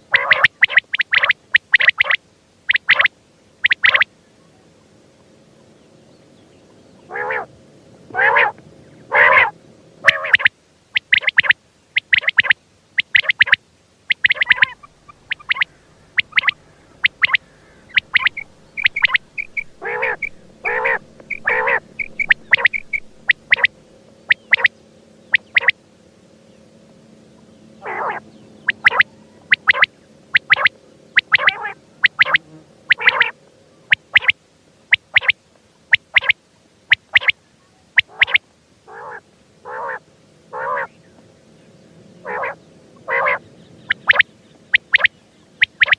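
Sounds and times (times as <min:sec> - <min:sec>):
quail calling: 0:00.1 - 0:04.0, 0:07.1 - 0:07.5, 0:08.1 - 0:24.7, 0:25.3 - 0:25.8, 0:27.8 - 0:33.3, 0:33.9 - 0:37.3, 0:38.0 - 0:40.9, 0:42.2 - 0:45.9.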